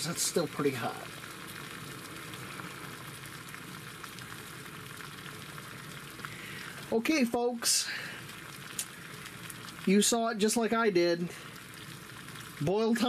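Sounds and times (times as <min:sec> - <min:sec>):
gas stove burner hissing: 0:00.0 - 0:13.0
water boiling in metal pot: 0:00.0 - 0:13.0.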